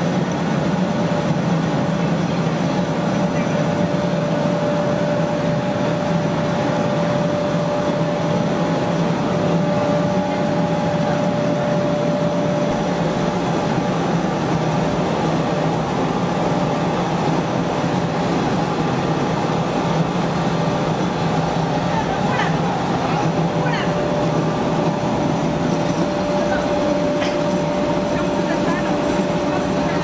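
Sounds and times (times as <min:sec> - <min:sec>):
roller mill mechanical din: 0:00.0 - 0:30.0
steady high tone: 0:03.2 - 0:30.0.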